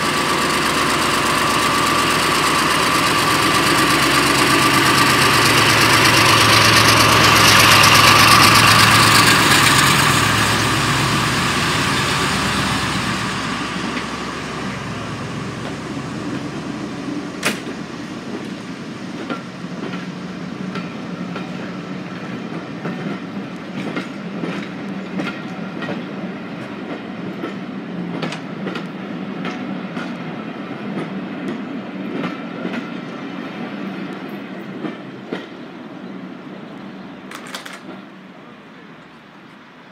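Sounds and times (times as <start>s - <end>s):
train wheels clicking over rail joints: 0.0s - 35.8s, 37.2s - 38.2s
diesel locomotive engine: 0.0s - 39.9s.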